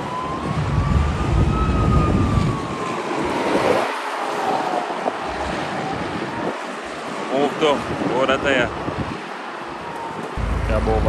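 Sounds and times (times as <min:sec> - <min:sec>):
diesel trucks passing: 0:00.0 - 0:11.0
faint siren wailing: 0:00.0 - 0:11.0.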